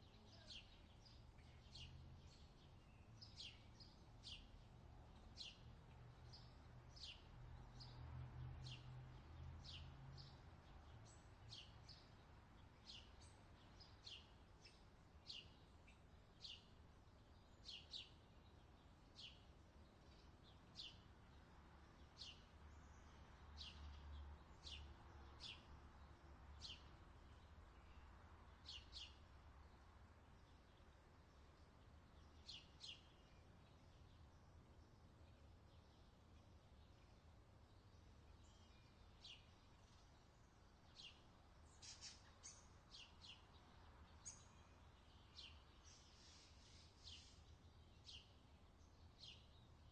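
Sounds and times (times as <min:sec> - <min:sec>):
bird chirping: 0:00.0 - 0:08.0, 0:08.6 - 0:49.9.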